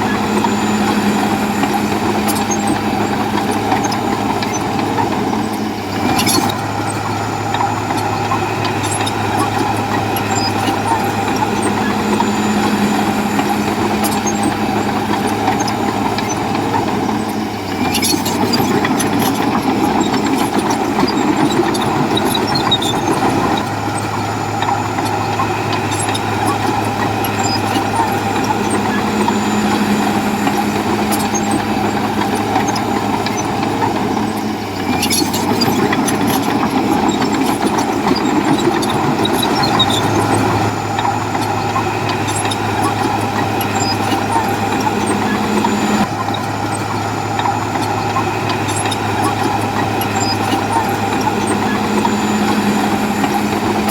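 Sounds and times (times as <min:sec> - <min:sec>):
bulldozer diesel engine under load: 0:00.0 - 0:53.9.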